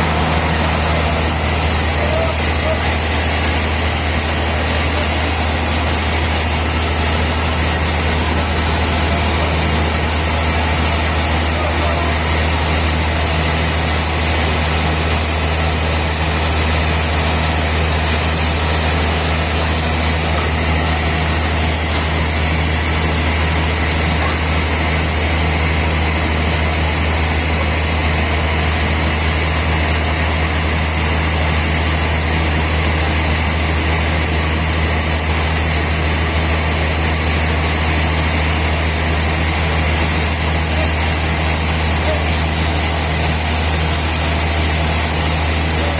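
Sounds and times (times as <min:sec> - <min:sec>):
sawmill machinery droning: 0:00.0 - 0:45.9.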